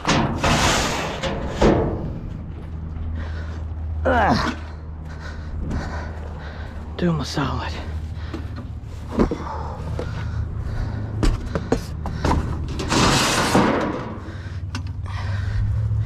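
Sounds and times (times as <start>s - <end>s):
steady low hum: 0.2s - 12.9s, 13.8s - 16.0s.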